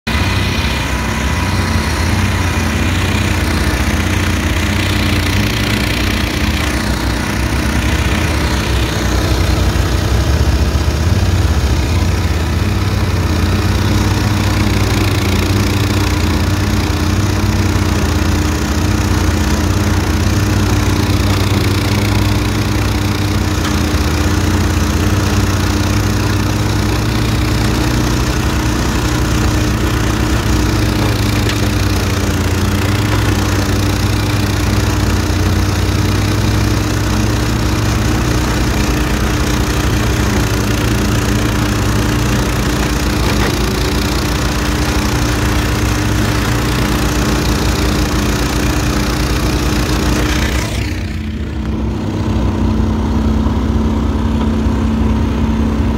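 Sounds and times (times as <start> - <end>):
flail mower engine and rotor: 0.0 - 55.9
quad engine running: 0.0 - 55.9.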